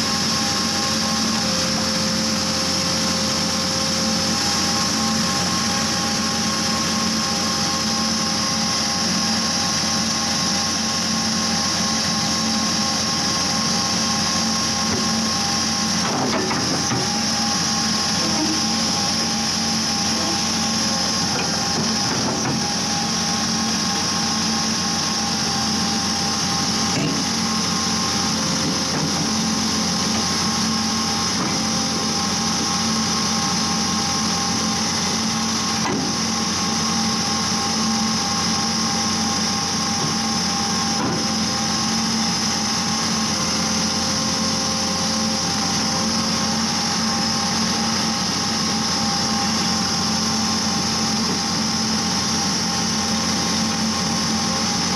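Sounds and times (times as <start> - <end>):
drilling machine engine hum: 0.0 - 54.9
steady hydraulic whine: 0.0 - 54.9.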